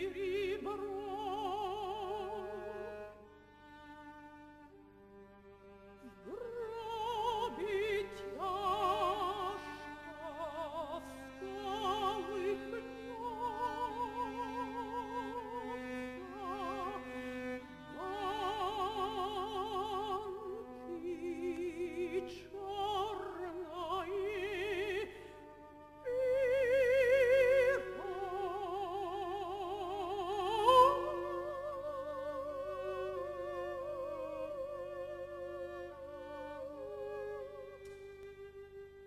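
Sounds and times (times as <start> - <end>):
operatic soprano singing: 0.0 - 3.2, 6.0 - 38.2
cello playing: 0.0 - 39.0.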